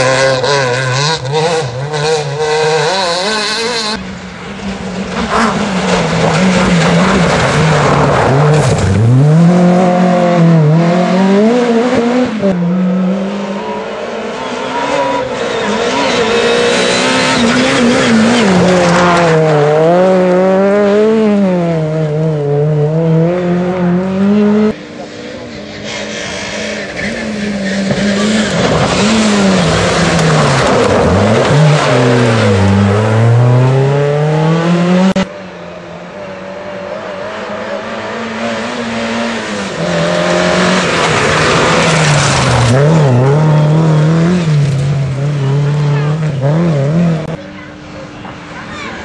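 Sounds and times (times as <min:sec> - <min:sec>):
rally car engines accelerating: 0:00.0 - 0:49.0.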